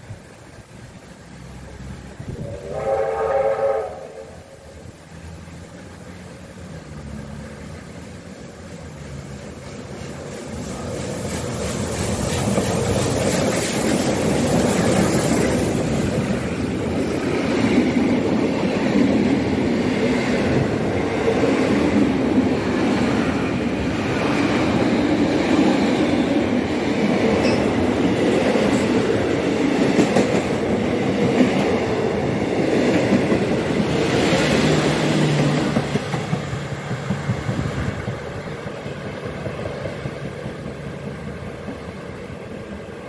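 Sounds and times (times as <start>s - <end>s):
steam train rushing past: 0.0s - 43.0s
wheels clattering on rails: 5.7s - 42.9s.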